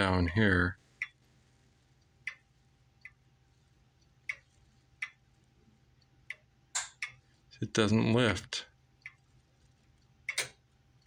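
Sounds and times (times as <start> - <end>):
grandfather clock ticking: 0.0 - 9.3, 10.0 - 11.0.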